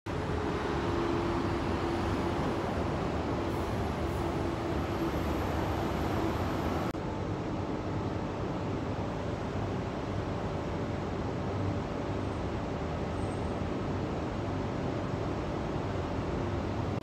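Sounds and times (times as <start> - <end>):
outdoor background noise: 0.1 - 17.0.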